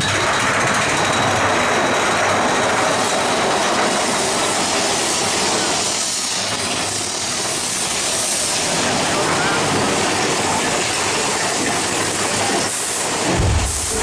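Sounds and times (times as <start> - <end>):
roller coaster rumble and rattle: 0.0 - 14.0.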